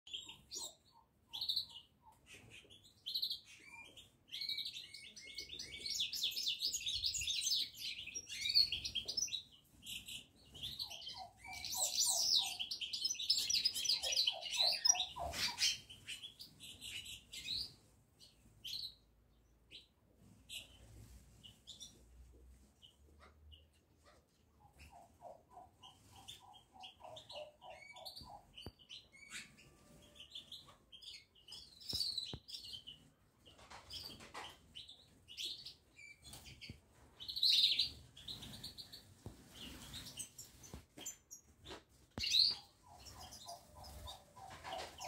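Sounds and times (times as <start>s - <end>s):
songbirds chirping and trilling: 0.1s - 45.0s.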